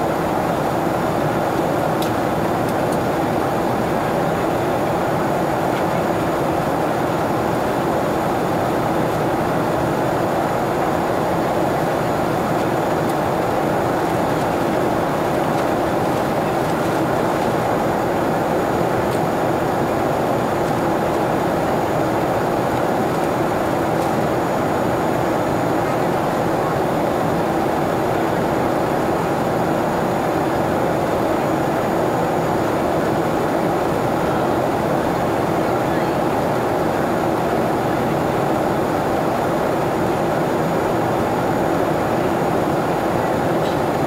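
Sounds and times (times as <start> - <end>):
jet engines droning: 0.0 - 44.0.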